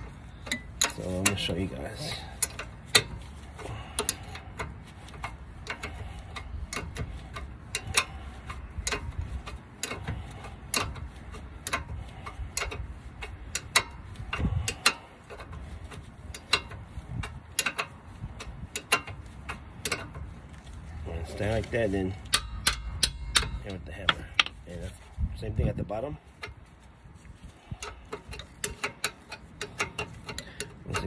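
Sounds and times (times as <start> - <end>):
wrench clicking on bolt: 0.0 - 20.3, 22.2 - 24.6, 27.8 - 31.0.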